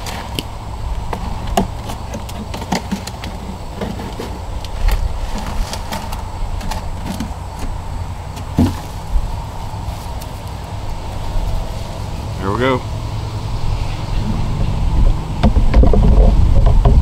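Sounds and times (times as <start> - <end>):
plastic bucket creaking and scraping: 0.0 - 10.4, 13.8 - 17.0
low background rumble: 0.0 - 17.0.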